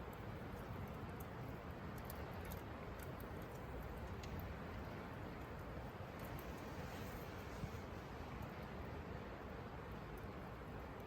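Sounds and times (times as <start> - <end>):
low rumble of wind: 0.0 - 11.0.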